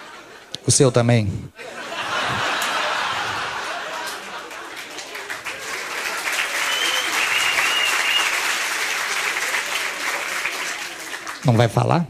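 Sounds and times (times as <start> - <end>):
audience applauding: 2.1 - 11.9.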